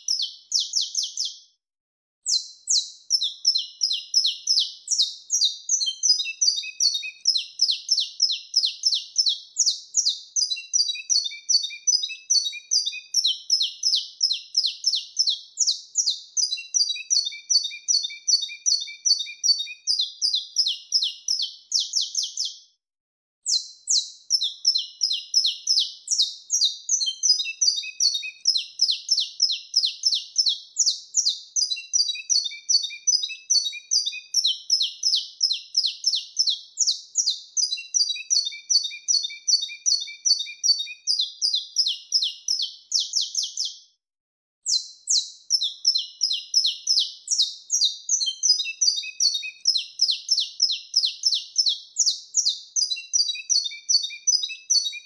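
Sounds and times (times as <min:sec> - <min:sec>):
finch chirping song: 0:00.0 - 0:01.5, 0:02.2 - 0:22.7, 0:23.4 - 0:43.8, 0:44.6 - 0:55.0.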